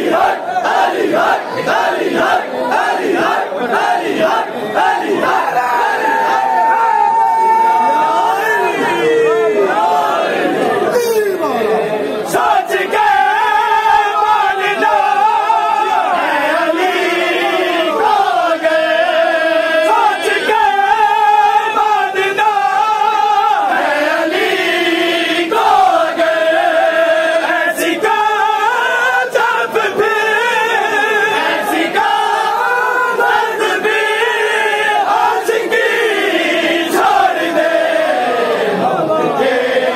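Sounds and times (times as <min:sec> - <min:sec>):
men chanting together: 0:00.0 - 0:07.0, 0:08.2 - 0:39.9.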